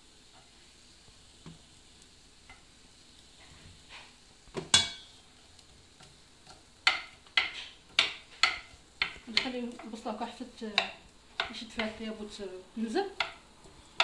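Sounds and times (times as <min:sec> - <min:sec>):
onion sizzling in a pan: 0:00.0 - 0:14.0.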